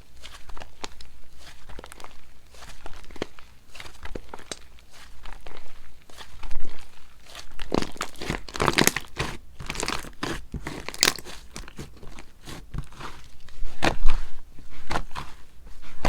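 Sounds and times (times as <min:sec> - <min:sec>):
crunchy crinkly slime crackles: 0:00.0 - 0:16.0
hands squishing slime: 0:00.0 - 0:16.0.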